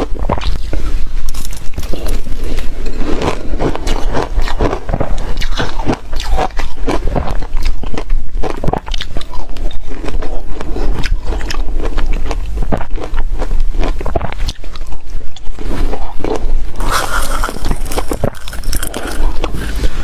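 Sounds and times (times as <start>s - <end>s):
chewing crunching ice: 0.0s - 20.0s.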